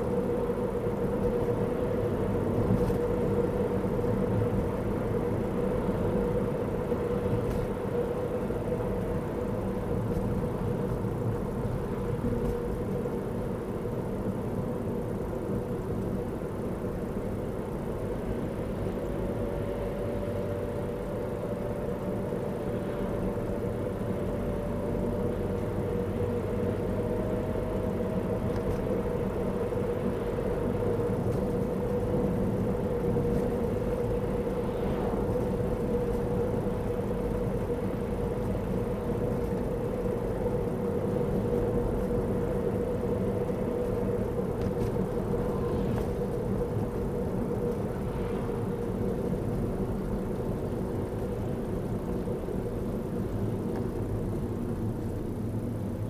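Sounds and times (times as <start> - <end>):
car driving interior rumble: 0.0 - 56.0.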